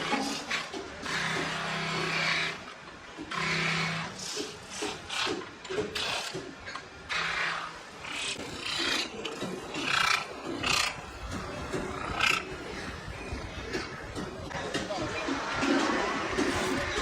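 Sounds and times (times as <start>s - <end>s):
rasping strokes on aluminum: 0.0s - 14.5s.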